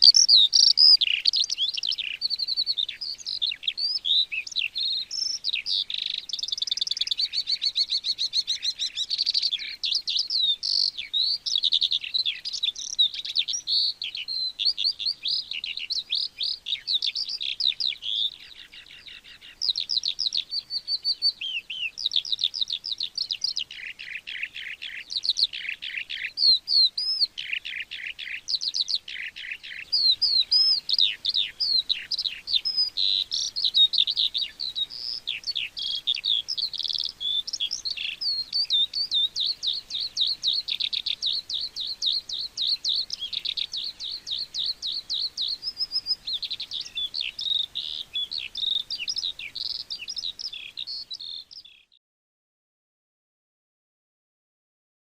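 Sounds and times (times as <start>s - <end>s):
skylark singing: 0.0s - 52.0s.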